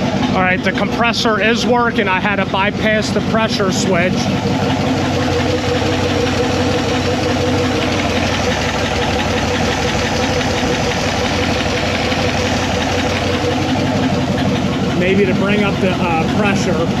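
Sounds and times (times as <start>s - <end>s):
air-conditioning compressor running: 0.0s - 17.0s
car engine idling: 0.0s - 17.0s.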